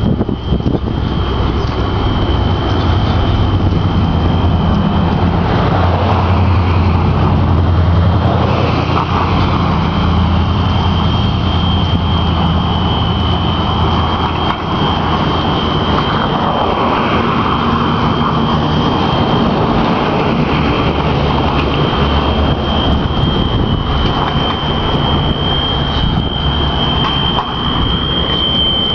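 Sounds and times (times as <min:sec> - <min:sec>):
continuous high-pitched alarm tone: 0:00.0 - 0:28.9
low rumble of street traffic: 0:00.0 - 0:28.9.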